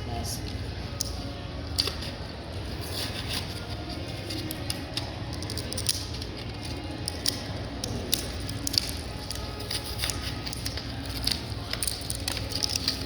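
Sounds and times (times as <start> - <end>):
low background hum: 0.0 - 13.0
plastic packaging being cut open: 1.6 - 13.0.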